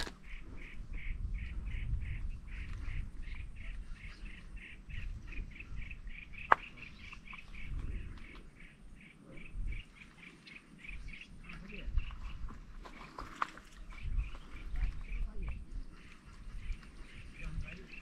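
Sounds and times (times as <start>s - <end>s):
wind rumble on microphone: 0.0s - 10.0s, 10.8s - 18.0s.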